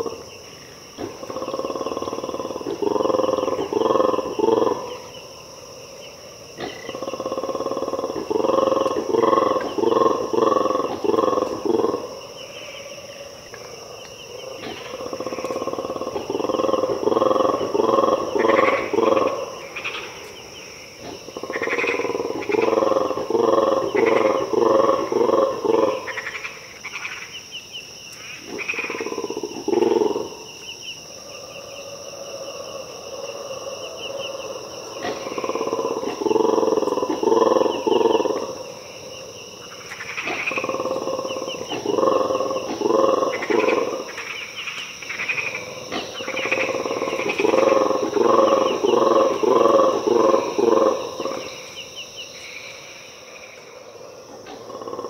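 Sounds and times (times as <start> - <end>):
monkeys roaring: 0.9 - 26.7, 28.4 - 51.8, 53.0 - 55.0.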